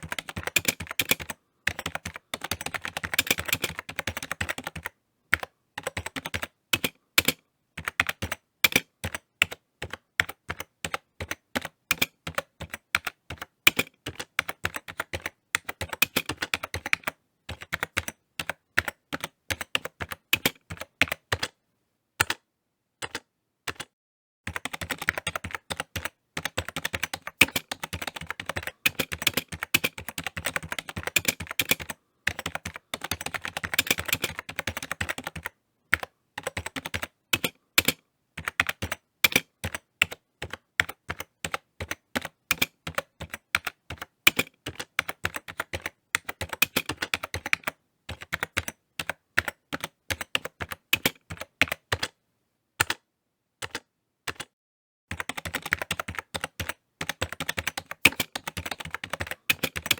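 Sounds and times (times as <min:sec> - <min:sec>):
computer keyboard typing: 0:00.0 - 0:21.6, 0:22.2 - 0:22.4, 0:23.0 - 0:23.9, 0:24.5 - 0:52.2, 0:52.8 - 0:53.0, 0:53.6 - 0:54.5, 0:55.1 - 0:59.9.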